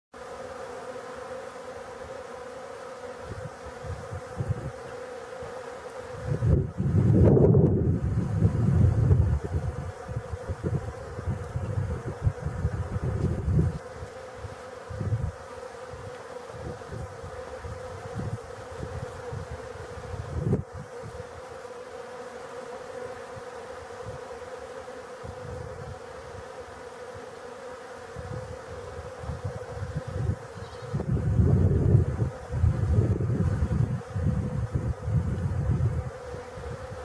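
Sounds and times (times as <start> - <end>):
honeybees buzzing: 0.2 - 37.0.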